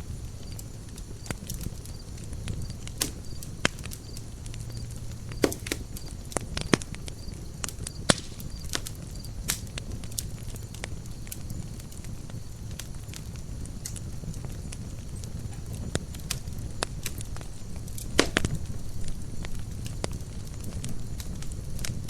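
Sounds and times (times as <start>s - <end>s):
low rumble of flames: 0.0s - 22.0s
wood crackling and popping: 0.0s - 22.0s.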